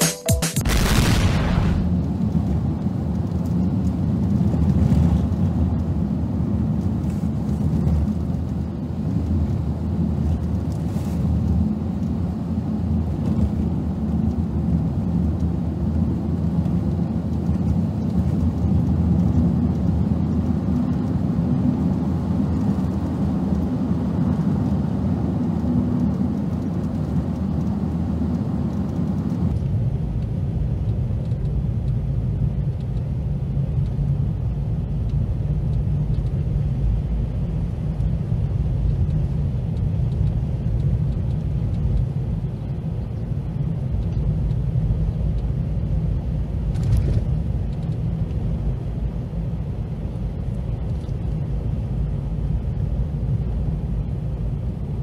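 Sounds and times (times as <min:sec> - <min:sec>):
car engine and tyres rumbling: 0:00.7 - 0:55.0.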